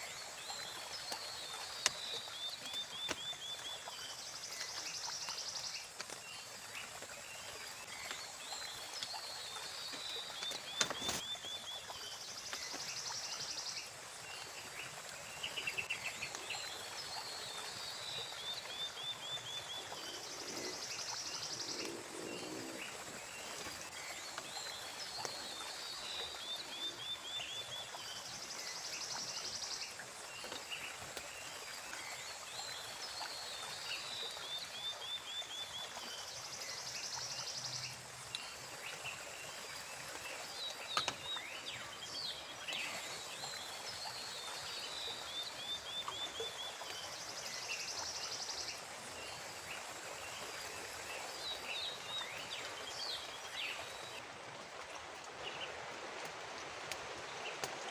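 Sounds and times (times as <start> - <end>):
small stream hissing: 0.0 - 57.9.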